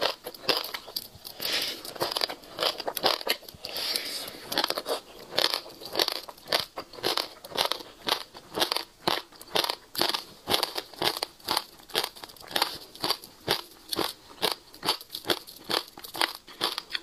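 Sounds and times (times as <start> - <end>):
seeds crunching between teeth: 0.0 - 17.0
wet chewing: 0.0 - 17.0.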